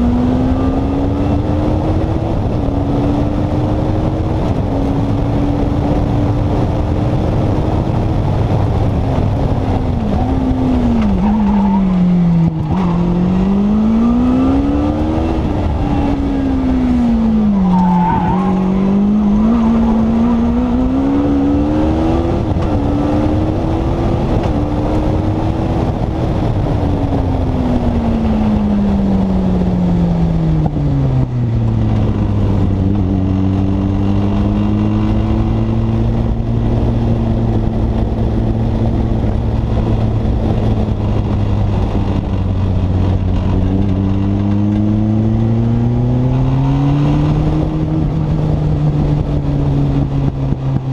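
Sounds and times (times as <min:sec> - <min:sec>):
racing engine revving: 0:00.0 - 0:08.1, 0:08.8 - 0:29.8, 0:31.6 - 0:50.9
wind and road noise: 0:00.0 - 0:50.9.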